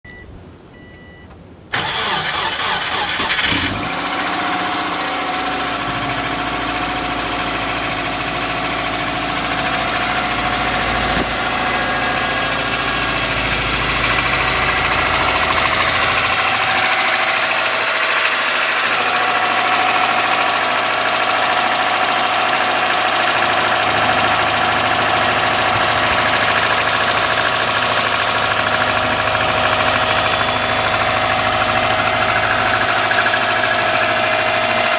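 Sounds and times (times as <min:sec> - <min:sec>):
car engine cranking: 0:01.3 - 0:34.9
car engine idling: 0:01.4 - 0:34.9.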